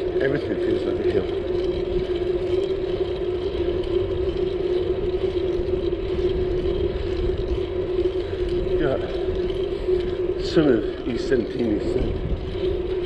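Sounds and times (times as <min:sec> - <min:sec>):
bicycle road rumble: 0:00.0 - 0:13.0
steady hum: 0:00.0 - 0:13.0
wind rumble: 0:00.0 - 0:13.0.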